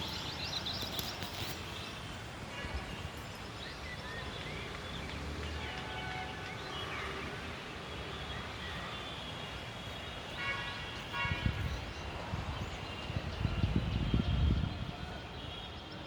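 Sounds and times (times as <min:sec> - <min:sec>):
birds chirping: 0:00.0 - 0:16.0
outdoor background noise: 0:00.0 - 0:16.0.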